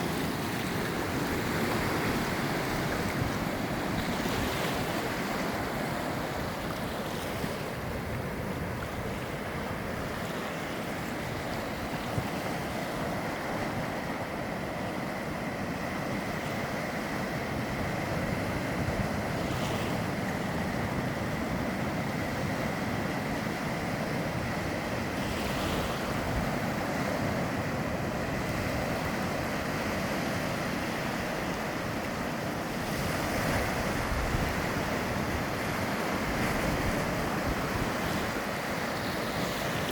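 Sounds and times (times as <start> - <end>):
surf rushing: 0.0 - 39.9
wind: 0.0 - 39.9.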